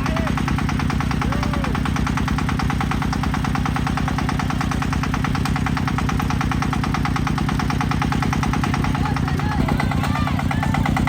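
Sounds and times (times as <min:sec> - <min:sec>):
tractor diesel engine knocking: 0:00.0 - 0:11.0.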